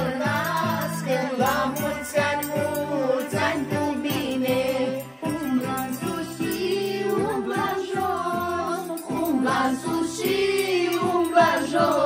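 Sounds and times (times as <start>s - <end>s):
women and children singing: 0.0s - 12.0s.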